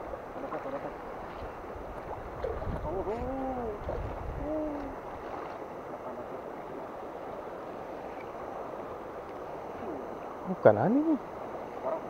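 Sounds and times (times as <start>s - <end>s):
river current over rapids: 0.0s - 12.0s.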